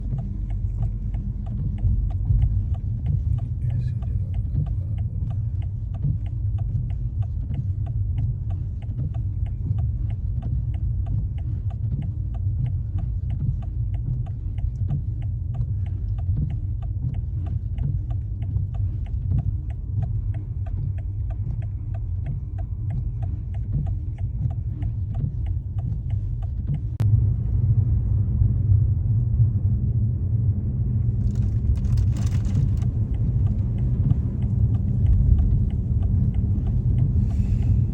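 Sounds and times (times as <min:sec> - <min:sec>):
even ticking: 0:00.0 - 0:27.0, 0:31.2 - 0:37.9
car road rumble: 0:00.0 - 0:37.9.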